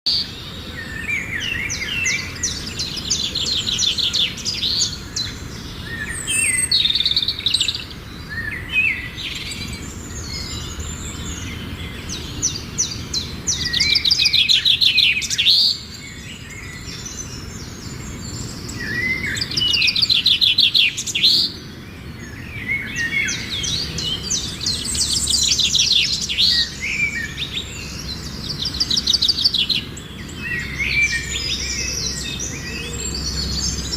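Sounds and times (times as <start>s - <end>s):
birds twittering trills: 0.1s - 33.9s.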